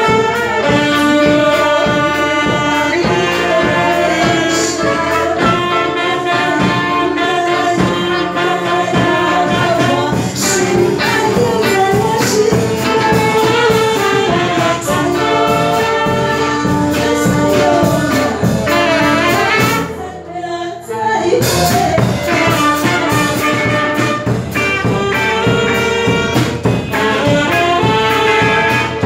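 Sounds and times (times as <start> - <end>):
drum kit beat: 0.0 - 20.1, 21.3 - 29.0
saxophone section playing melody: 0.0 - 29.0.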